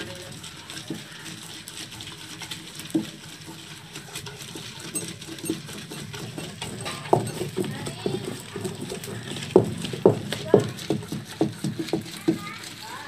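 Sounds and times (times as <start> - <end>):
stone roller grinding lentils: 0.0 - 13.0.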